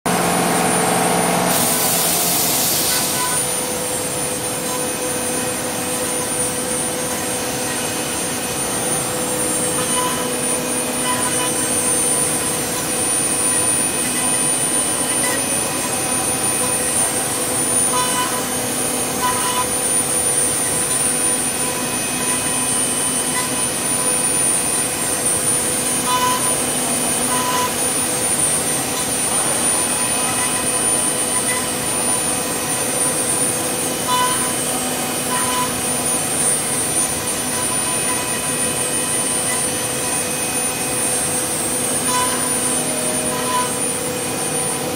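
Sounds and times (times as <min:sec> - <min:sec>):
machine whine: 0:00.1 - 0:44.9
cutter hissing on turning wood: 0:01.4 - 0:44.9.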